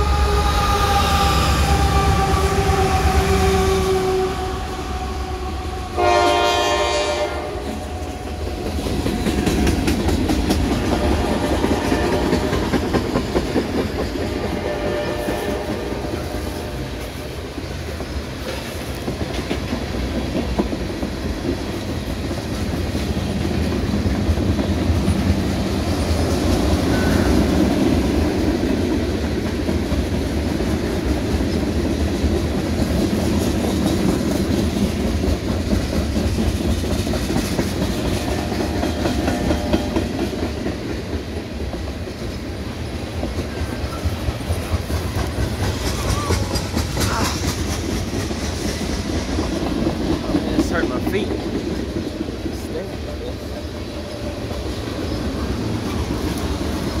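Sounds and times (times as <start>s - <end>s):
train wheels rumbling on rails: 0.0s - 57.0s
wheels clacking over rail joints: 6.4s - 57.0s.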